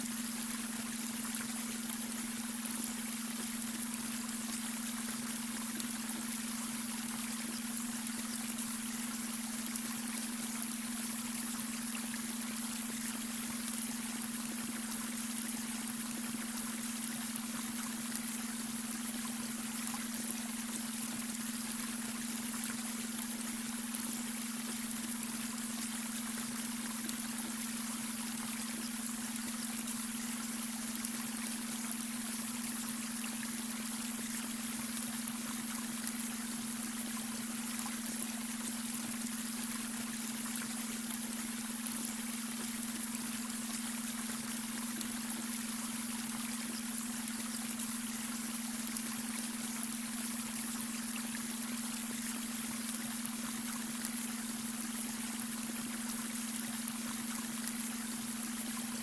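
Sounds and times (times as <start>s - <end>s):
brook water trickling: 0.0s - 59.0s
steady low hum tone: 0.0s - 59.0s.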